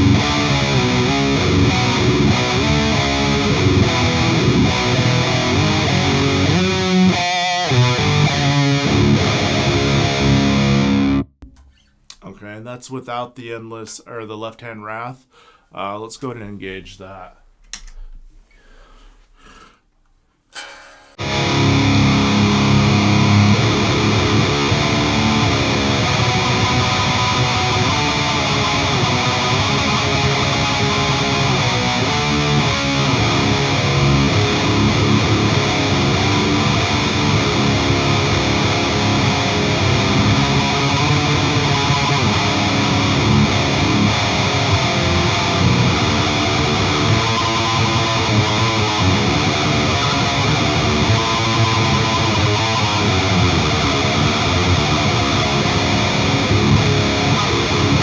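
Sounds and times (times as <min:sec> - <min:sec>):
heavily distorted electric guitar: 0:00.0 - 0:11.9, 0:20.5 - 0:58.0.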